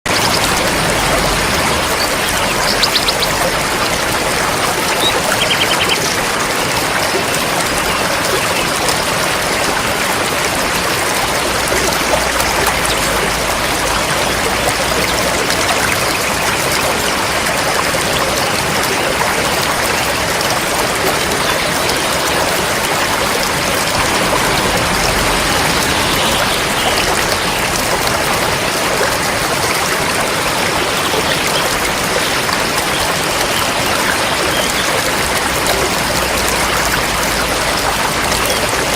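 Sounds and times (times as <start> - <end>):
river water rushing over rocks: 0.1 - 38.9.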